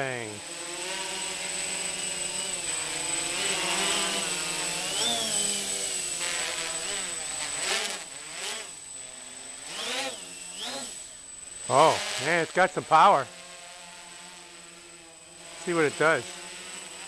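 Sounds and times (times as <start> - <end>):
quadcopter propellers buzzing: 0.0 - 17.0.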